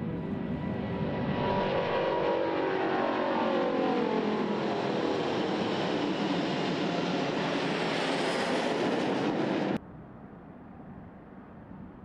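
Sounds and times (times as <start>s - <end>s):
jet engines at takeoff thrust: 0.0s - 9.8s.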